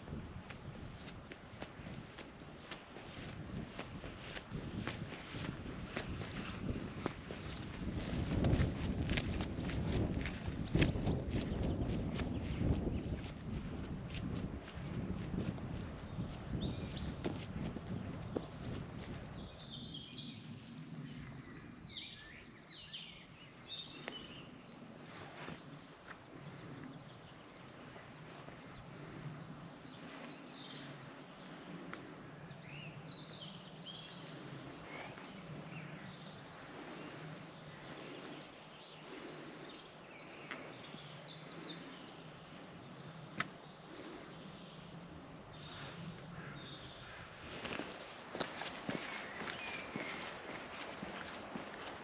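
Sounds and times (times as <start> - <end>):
faint outdoor background noise: 0.0 - 52.0
birds calling: 0.7 - 13.9, 15.8 - 52.0.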